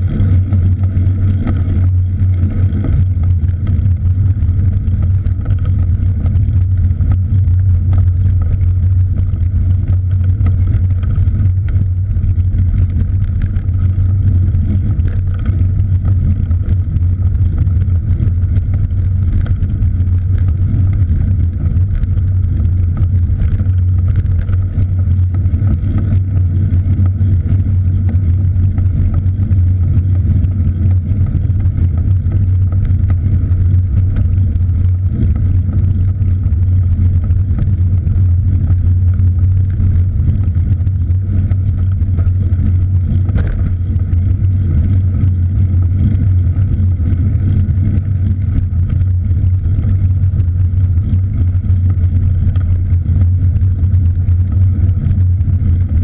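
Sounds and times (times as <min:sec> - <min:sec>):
loud low rumble: 0:00.0 - 0:56.0.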